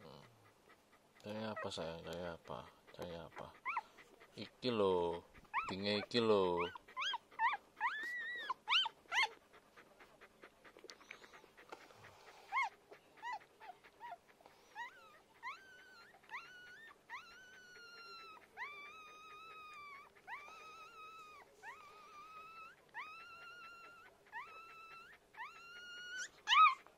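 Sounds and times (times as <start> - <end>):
puppies squeaking and whining: 0.0 - 26.9.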